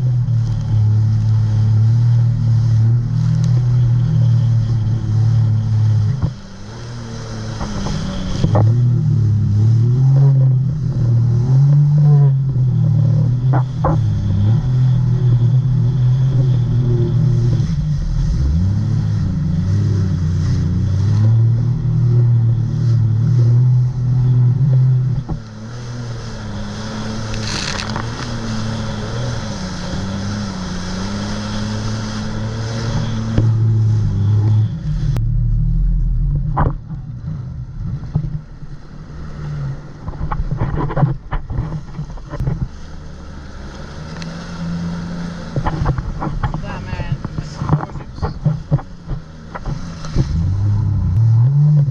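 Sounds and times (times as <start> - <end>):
jet ski engine: 0.0 - 51.9
rushing water: 0.0 - 51.9
wind: 0.0 - 51.9.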